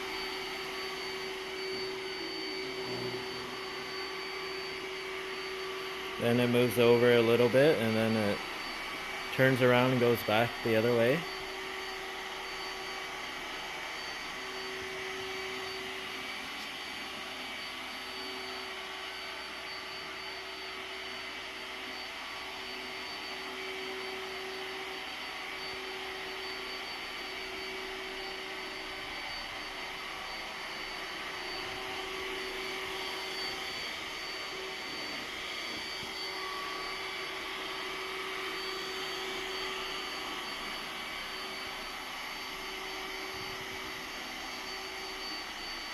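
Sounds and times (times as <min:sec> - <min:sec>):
robot vacuum motor whir: 0:00.0 - 0:45.9.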